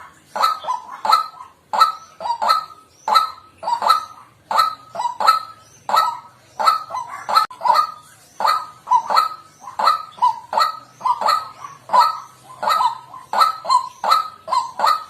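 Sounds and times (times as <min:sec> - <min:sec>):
waterhen harsh kwak calls: 0:00.0 - 0:15.0.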